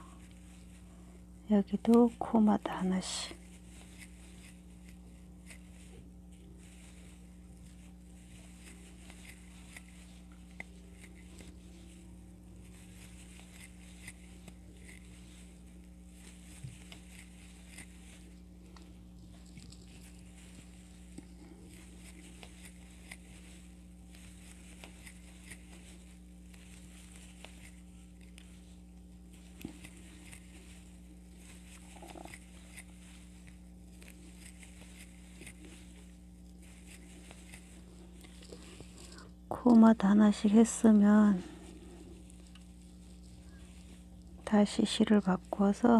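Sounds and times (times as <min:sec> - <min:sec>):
low electrical hum: 0:00.0 - 0:45.9.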